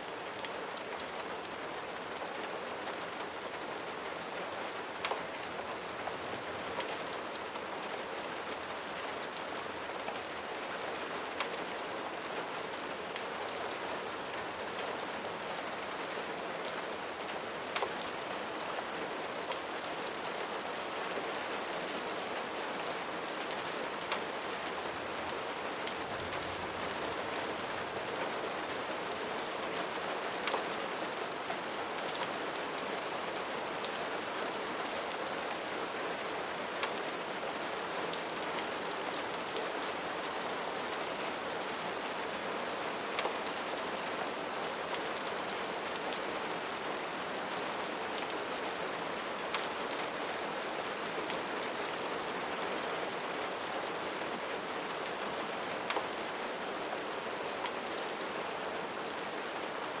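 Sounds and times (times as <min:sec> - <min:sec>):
steady rain patter: 0:00.0 - 1:00.0.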